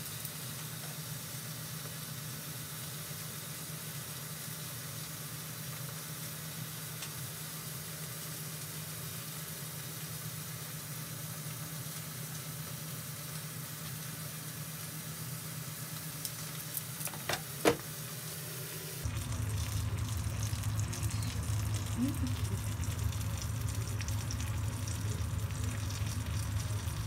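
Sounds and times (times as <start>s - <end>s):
air fryer hum: 0.0s - 27.0s
chicken sizzling in air fryer: 0.0s - 27.0s.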